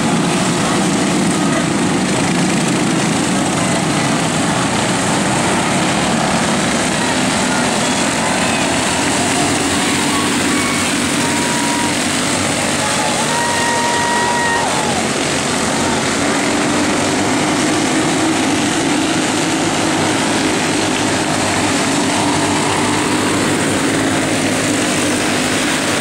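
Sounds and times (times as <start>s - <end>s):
kart engines buzzing: 0.0s - 26.0s
rushing hiss: 0.0s - 26.0s.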